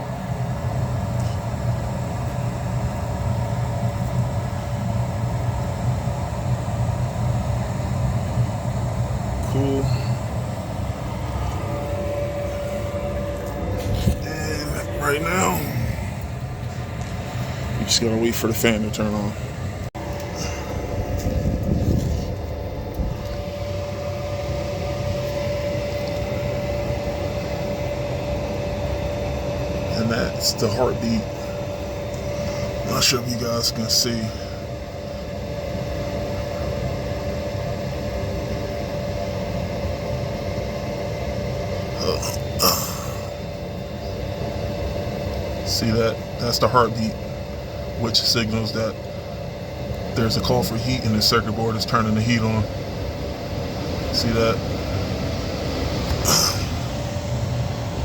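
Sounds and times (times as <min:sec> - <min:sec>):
constant whine: 0:00.0 - 0:58.0
furnace draft inducer motor humming: 0:00.0 - 0:58.0.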